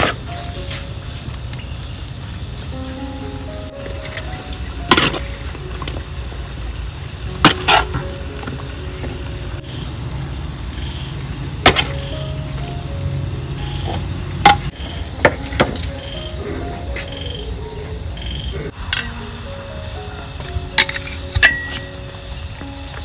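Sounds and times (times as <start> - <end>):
quiet background music: 0.0 - 23.0.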